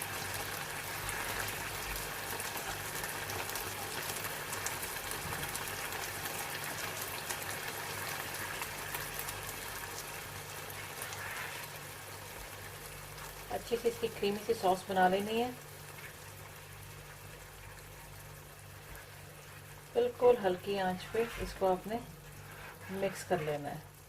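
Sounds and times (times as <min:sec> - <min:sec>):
food sizzling in a pan: 0:00.0 - 0:24.0
low steady hum: 0:00.0 - 0:24.0.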